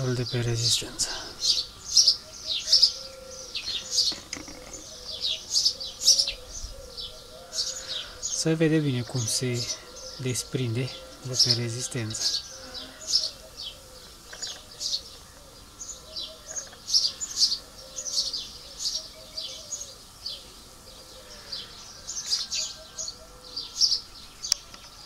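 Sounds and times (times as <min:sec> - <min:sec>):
lower bird call: 0:00.0 - 0:25.0
small birds chirping: 0:00.0 - 0:25.0.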